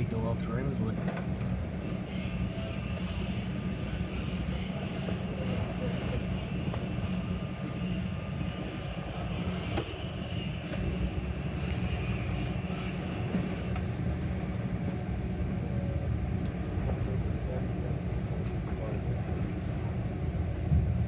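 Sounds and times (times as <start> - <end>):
train rumbling from inside: 0.0 - 21.0.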